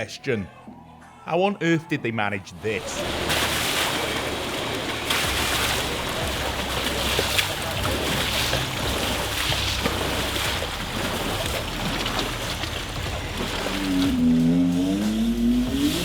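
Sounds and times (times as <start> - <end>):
heavy rain pouring: 2.8 - 16.0.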